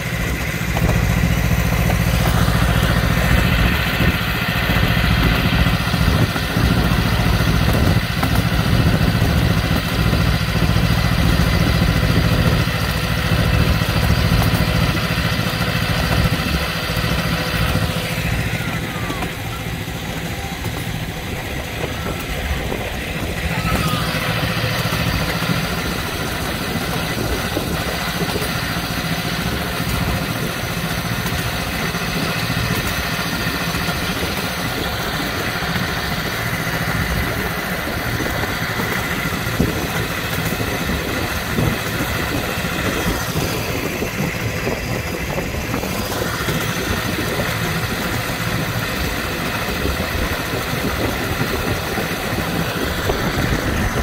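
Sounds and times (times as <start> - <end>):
miniature locomotive engine running: 0.0 - 54.0.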